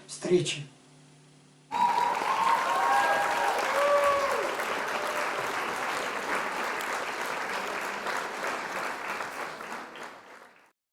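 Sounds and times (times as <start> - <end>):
crowd applause: 1.7 - 10.8.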